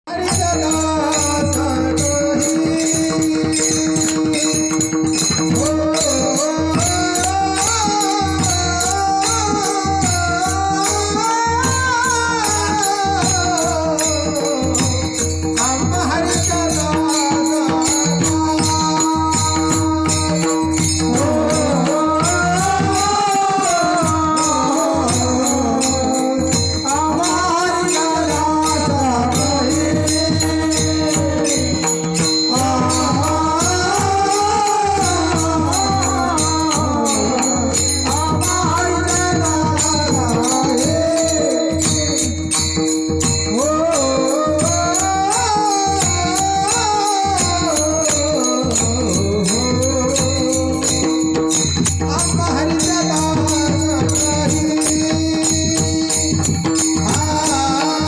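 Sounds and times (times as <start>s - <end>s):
person singing devotional song: 0.0s - 58.0s
hand cymbals jingling: 0.1s - 58.0s.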